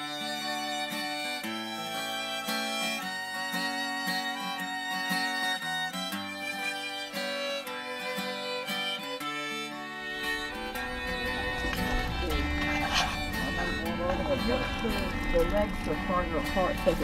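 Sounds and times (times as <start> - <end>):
fiddle playing a tune: 0.0 - 17.0
plucked guitar accompaniment: 0.0 - 17.0.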